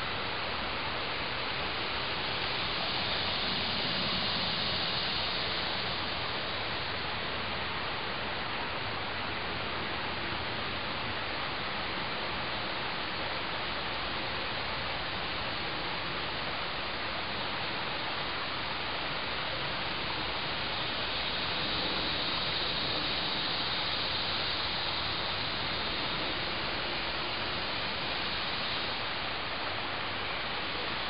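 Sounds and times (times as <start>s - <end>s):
outdoor background hiss: 0.0s - 31.0s.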